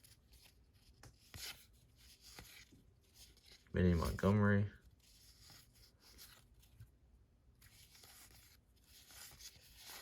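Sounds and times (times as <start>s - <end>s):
cards rustling and sliding: 0.0s - 10.0s.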